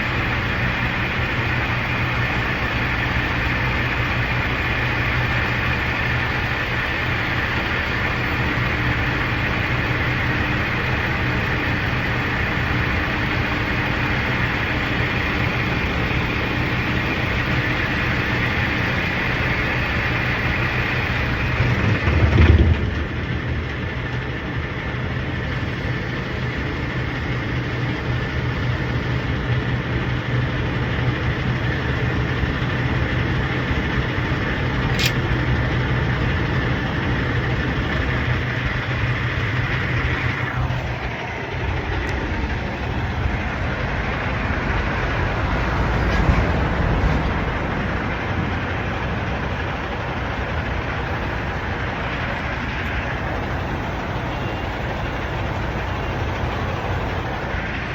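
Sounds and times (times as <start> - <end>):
vehicle engine hum: 0.0 - 57.9.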